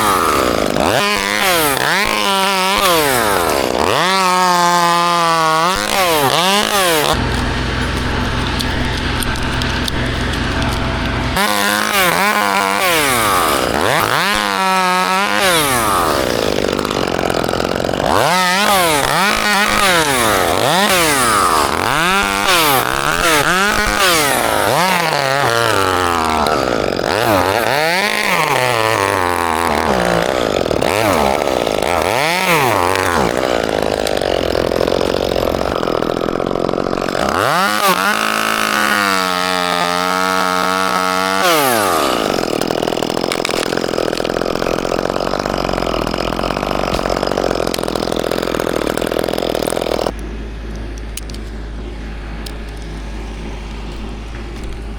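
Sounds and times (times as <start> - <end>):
chainsaw revving: 0.0 - 50.3.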